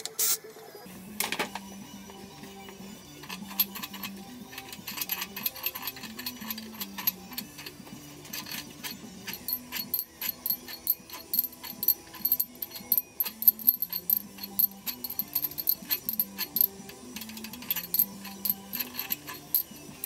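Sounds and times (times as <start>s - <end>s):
background music: 0.0s - 20.0s
metal parts clicking and clinking: 2.6s - 20.0s.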